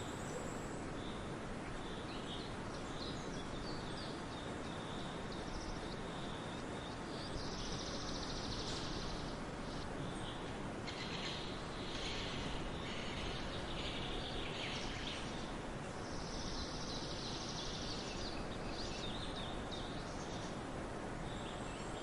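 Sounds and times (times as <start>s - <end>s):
songbirds chirping: 0.0s - 22.0s
steady background hiss: 0.0s - 22.0s.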